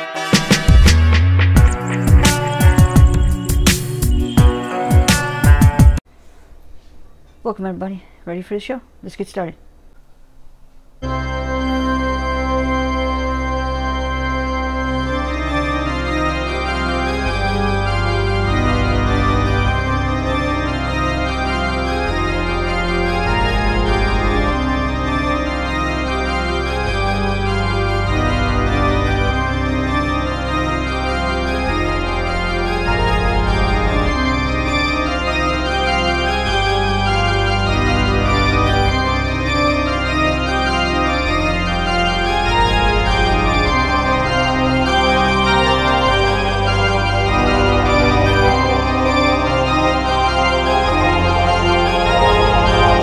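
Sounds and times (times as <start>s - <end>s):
organ music: 0.0s - 6.0s, 11.0s - 53.0s.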